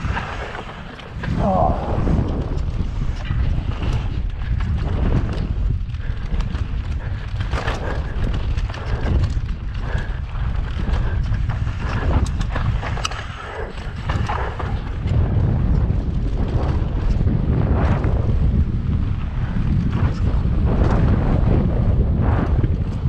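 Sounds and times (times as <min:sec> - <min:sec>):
bike clicks and rattles: 0:00.0 - 0:23.0
wind buffeting microphone: 0:00.0 - 0:23.0.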